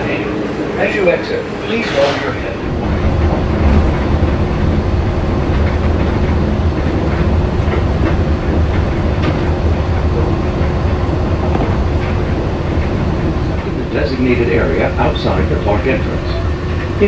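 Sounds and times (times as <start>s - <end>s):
low rumble with constant hum: 0.0s - 17.0s
monorail running: 0.0s - 17.0s.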